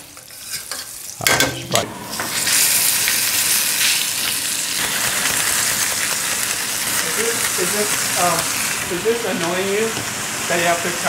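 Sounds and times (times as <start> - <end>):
meat sizzling in a skillet: 0.0 - 1.3, 2.0 - 11.0.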